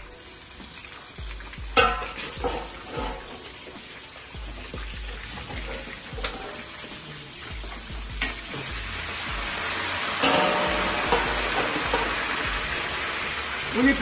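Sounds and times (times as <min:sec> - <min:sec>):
music with bass beat: 0:00.0 - 0:02.8, 0:03.8 - 0:14.0
meat sizzling in a pan: 0:00.0 - 0:14.0.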